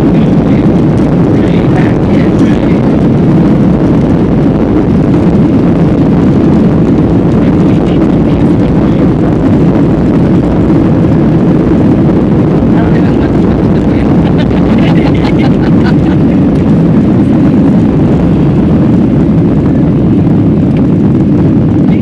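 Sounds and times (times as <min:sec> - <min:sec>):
airliner engines and airflow rushing: 0:00.0 - 0:22.0.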